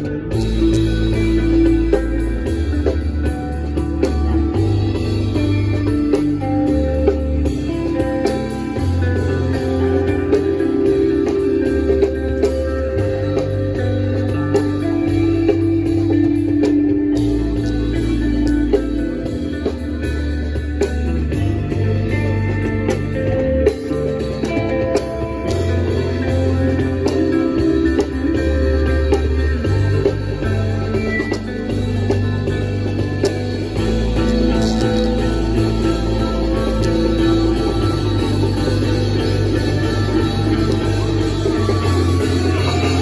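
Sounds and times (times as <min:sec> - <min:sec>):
electric guitar: 0:00.0 - 0:43.0
live band playing: 0:00.0 - 0:43.0
low bass line: 0:00.0 - 0:43.0.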